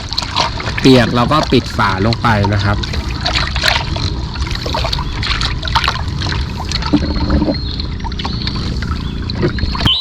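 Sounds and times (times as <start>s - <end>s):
low rumble: 0.0s - 9.9s
small splashes: 0.0s - 10.0s
water trickling and sloshing: 0.0s - 10.0s.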